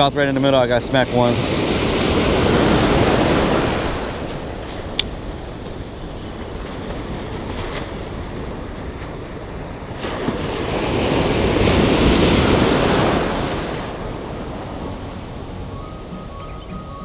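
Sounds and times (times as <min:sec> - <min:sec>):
small waves breaking: 0:00.0 - 0:15.5
wind buffeting microphone: 0:00.0 - 0:17.0.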